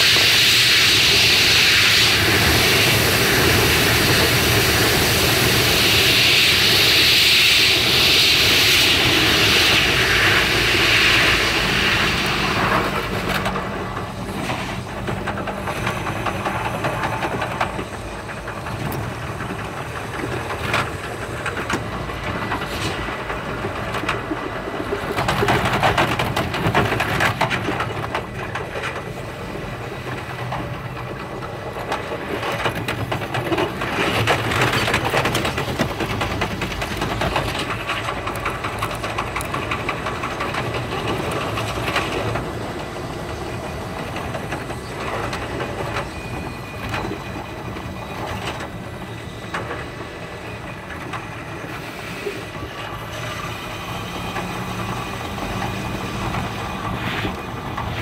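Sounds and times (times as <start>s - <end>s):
train running noise inside carriage: 0.0s - 58.0s.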